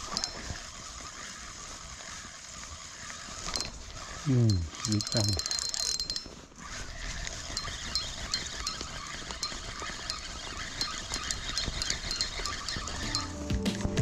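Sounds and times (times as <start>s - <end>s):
fishing reel whirring: 0.0s - 13.4s.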